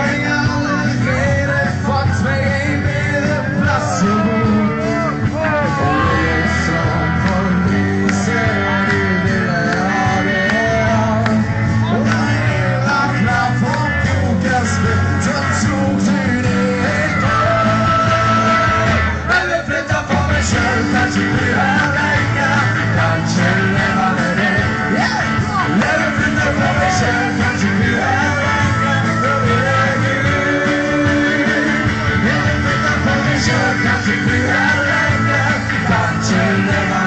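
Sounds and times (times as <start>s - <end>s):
lead singer singing: 0.0s - 37.0s
live rock band playing: 0.0s - 37.0s.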